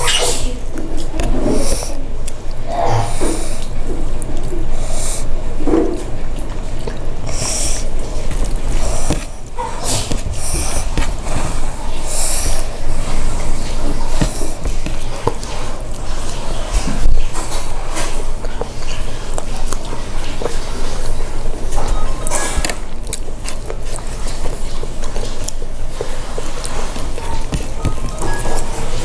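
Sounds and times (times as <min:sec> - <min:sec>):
wet chewing and smacking: 0:00.1 - 0:02.6, 0:03.2 - 0:29.0.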